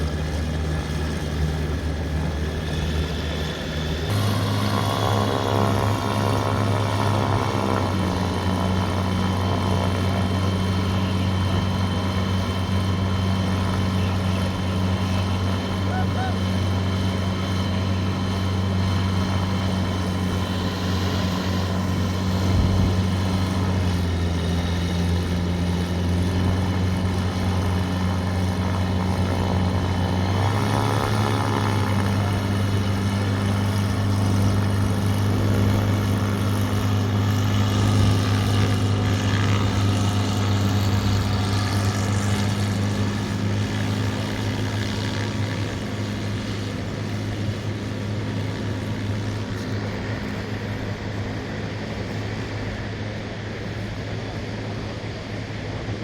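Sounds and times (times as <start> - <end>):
aircraft propeller engine running: 0.0 - 56.0.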